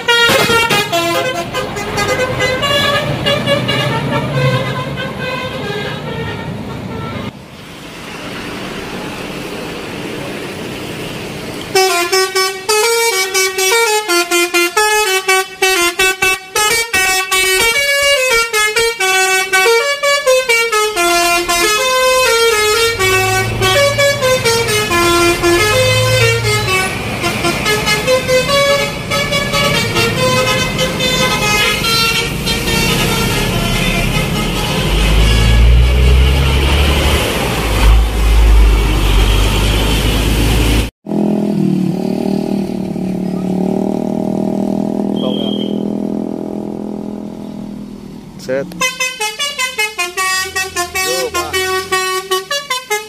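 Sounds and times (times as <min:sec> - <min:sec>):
musical bus horn playing: 0:00.0 - 0:07.3, 0:11.7 - 0:40.8, 0:45.1 - 0:47.8, 0:48.7 - 0:53.0
bus engine rumble: 0:00.0 - 0:40.9, 0:42.6 - 0:53.0.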